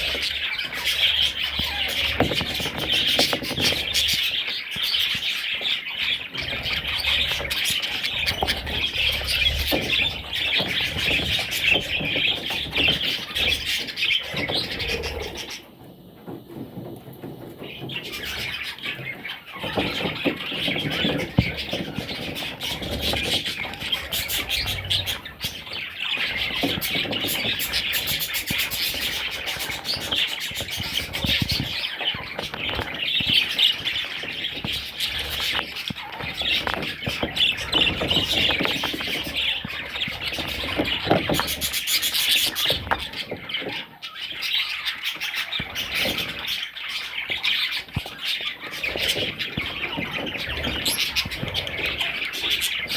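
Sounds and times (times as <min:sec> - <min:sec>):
budgerigar chicks chirping: 0:00.0 - 0:52.9.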